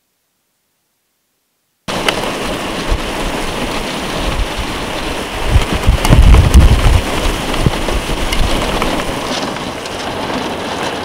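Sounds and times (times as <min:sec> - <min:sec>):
heavy rain hitting a car: 0:01.9 - 0:11.0.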